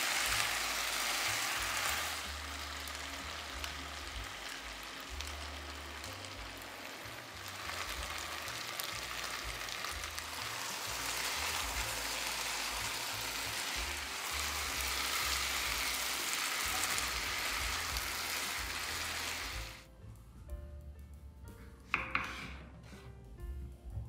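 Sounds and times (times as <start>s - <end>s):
food sizzling in hot oil: 0.0s - 19.9s.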